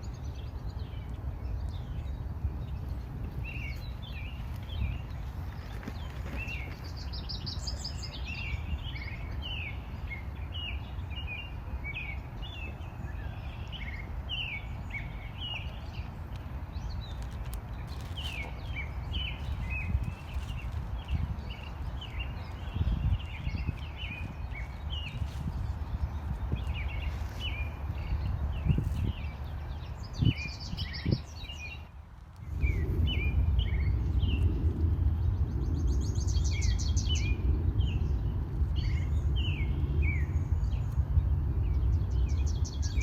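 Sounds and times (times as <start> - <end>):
songbirds chirping: 0.0 - 43.0
steady low rumble: 0.0 - 43.0.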